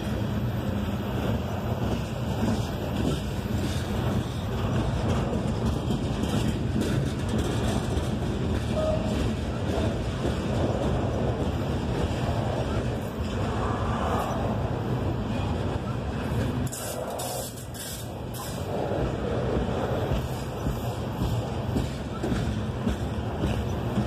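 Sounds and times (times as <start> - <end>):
steel wheels rolling on rail: 0.0 - 24.0.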